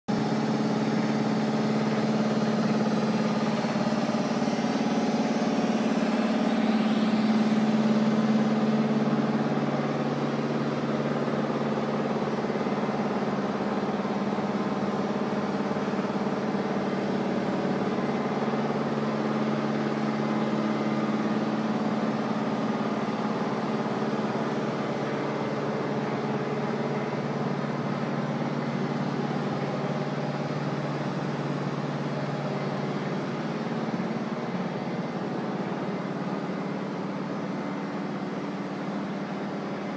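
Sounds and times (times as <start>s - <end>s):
printing press running: 0.1s - 39.9s.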